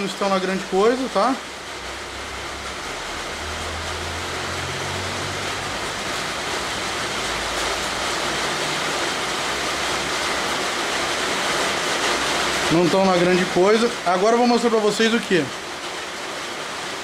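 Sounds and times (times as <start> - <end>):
rushing background noise: 1.1 - 14.8.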